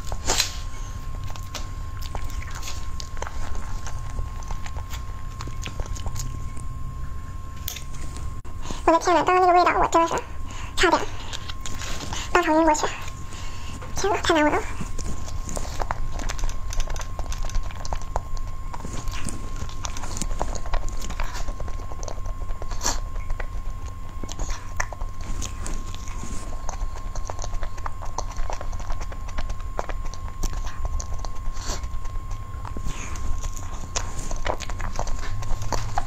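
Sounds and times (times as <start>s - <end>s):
lip and tongue clicks: 0.0s - 6.8s, 7.6s - 8.3s, 10.8s - 36.0s
chewing soft cake: 0.0s - 36.0s.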